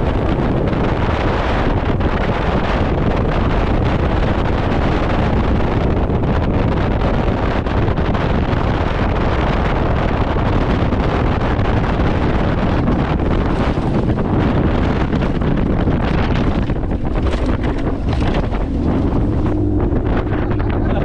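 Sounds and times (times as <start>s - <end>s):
boat engine: 0.0s - 21.0s
water noise: 0.0s - 21.0s
wind rushing over microphone: 0.0s - 21.0s.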